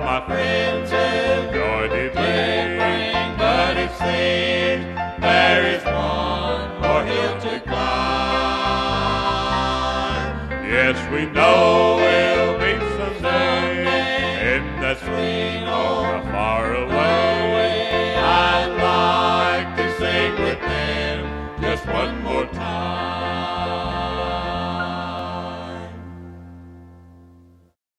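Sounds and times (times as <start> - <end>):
band playing gospel music: 0.0 - 26.3
voices singing in harmony: 0.0 - 26.3.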